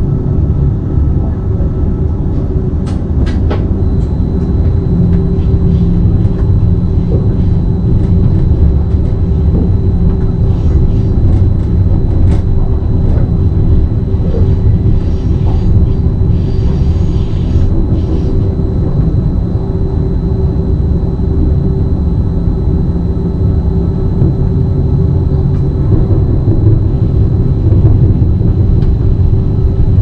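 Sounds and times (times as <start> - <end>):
train running gear rumble: 0.0 - 30.0
thin high whine: 3.5 - 30.0.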